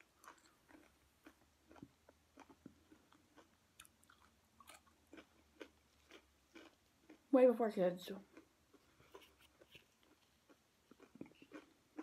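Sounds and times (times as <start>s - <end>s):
chewing soft food: 0.0s - 7.3s, 8.2s - 12.0s.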